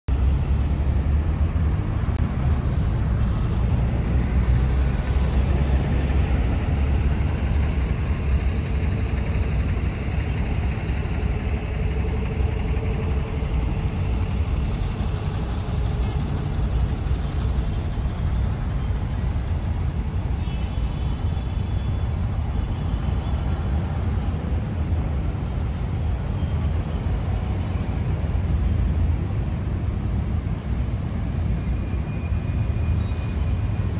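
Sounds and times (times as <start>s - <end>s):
city traffic rumble: 0.0s - 33.9s.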